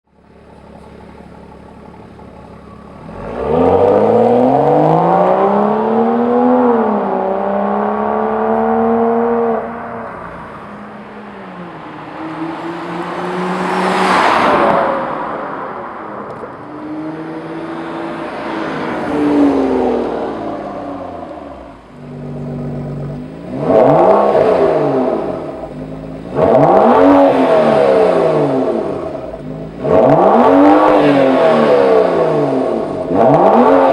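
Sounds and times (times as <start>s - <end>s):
car exhaust revving: 0.2s - 33.9s.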